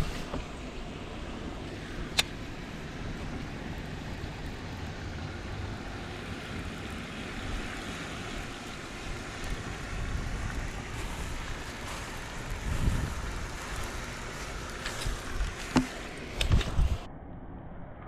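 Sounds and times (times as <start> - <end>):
wind buffeting microphone: 0.0 - 17.1.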